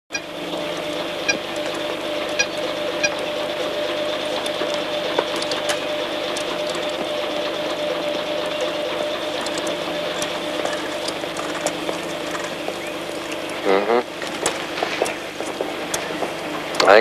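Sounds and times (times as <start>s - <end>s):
computer equipment hum: 0.1s - 17.0s.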